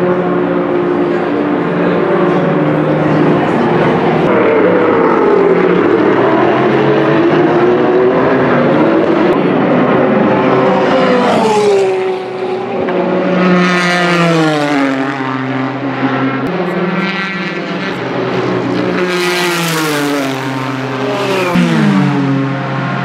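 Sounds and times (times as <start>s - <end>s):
race cars passing: 0.0s - 23.0s.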